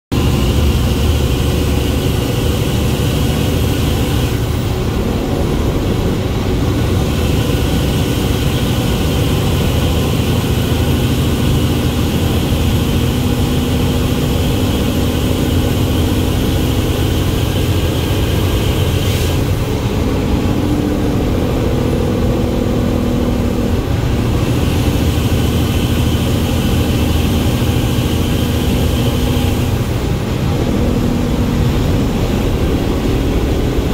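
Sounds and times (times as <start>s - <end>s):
truck engine and road rumble: 0.0s - 33.9s.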